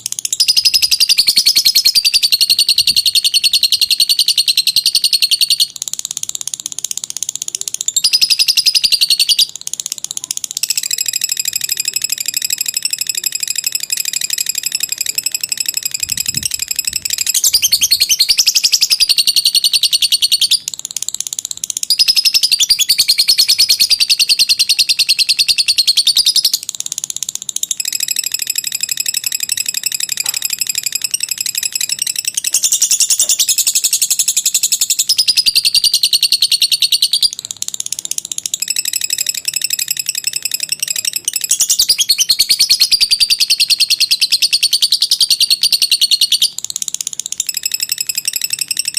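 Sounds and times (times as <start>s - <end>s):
lovebird chattering trill: 0.0s - 48.9s.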